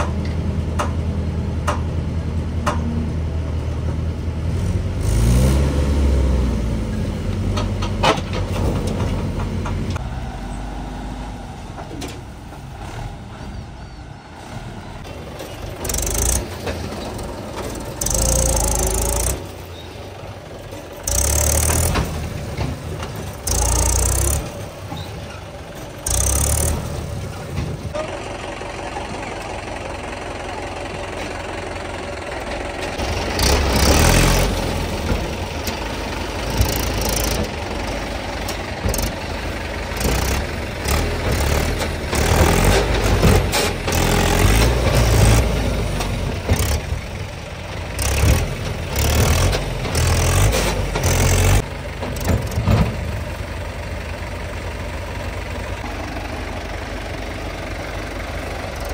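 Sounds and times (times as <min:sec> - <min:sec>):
tractor engine revving under load: 0:00.0 - 0:58.9.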